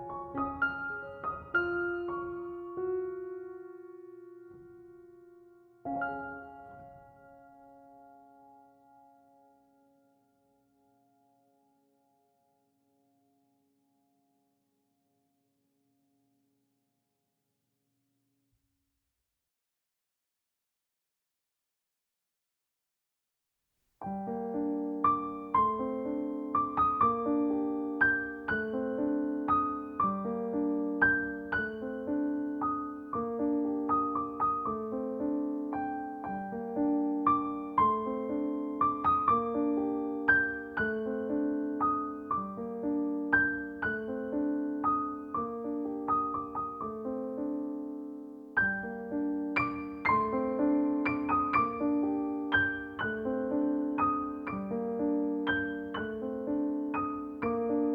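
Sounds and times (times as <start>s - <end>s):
slow piano music: 0.0s - 12.6s, 24.0s - 57.9s.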